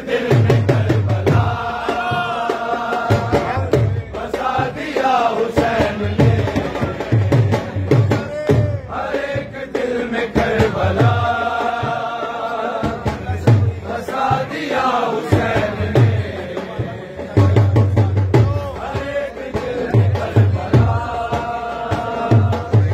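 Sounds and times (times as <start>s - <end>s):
men singing devotional chant: 0.0s - 22.9s.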